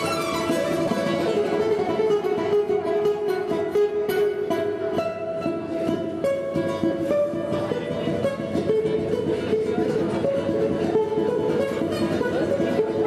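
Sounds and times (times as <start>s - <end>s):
balalaika plucked melody: 0.0s - 13.0s.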